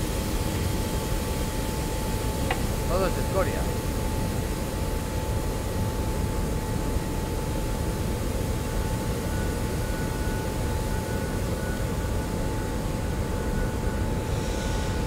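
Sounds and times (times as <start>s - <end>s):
high machinery whine: 0.0s - 15.0s
machinery rumble and hiss: 0.0s - 15.0s.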